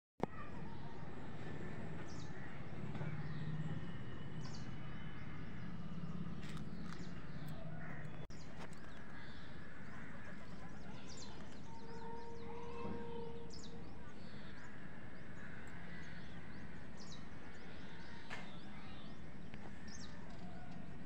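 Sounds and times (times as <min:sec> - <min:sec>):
birds chirping: 0:00.3 - 0:21.0.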